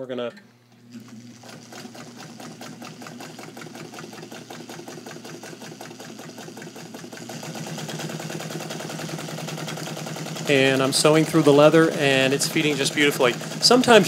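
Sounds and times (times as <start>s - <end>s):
sewing machine stitching leather: 0.9s - 14.0s.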